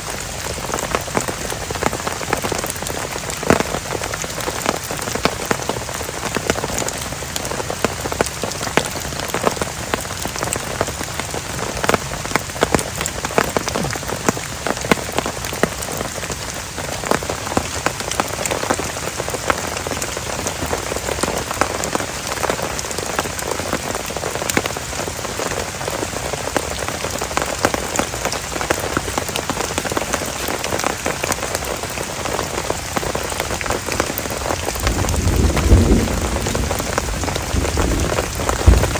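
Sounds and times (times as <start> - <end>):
heavy rain: 0.0 - 38.9
raindrops pattering on surface: 0.0 - 38.9.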